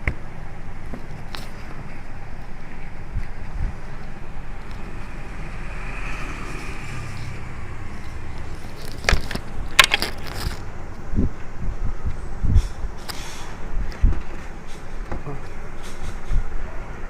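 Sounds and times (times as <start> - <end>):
background traffic rumble: 0.0 - 17.0.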